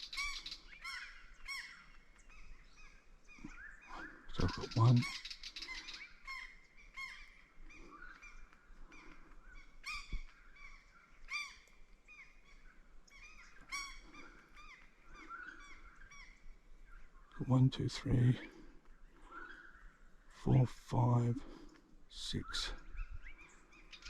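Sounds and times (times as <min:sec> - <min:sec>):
wild birds calling: 0:00.0 - 0:24.0.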